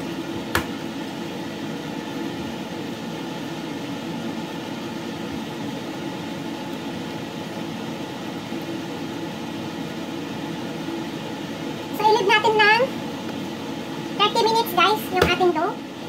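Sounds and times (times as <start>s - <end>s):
appliance hum with hiss: 0.0s - 16.0s.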